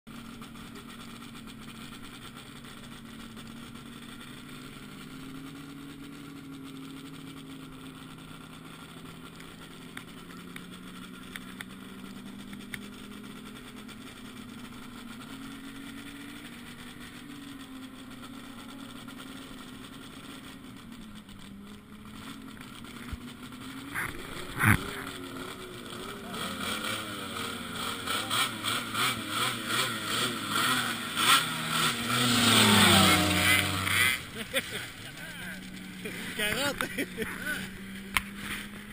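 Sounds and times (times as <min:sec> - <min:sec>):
snowmobile engines revving: 0:00.1 - 0:38.9.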